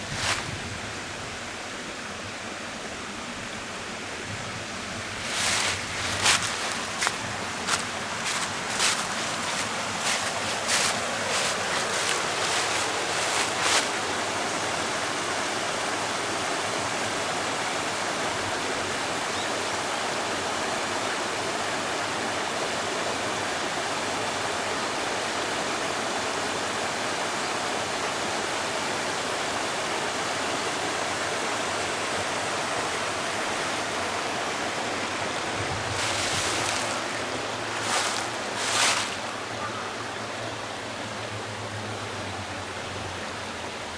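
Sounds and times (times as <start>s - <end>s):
rushing river water: 0.0s - 43.9s.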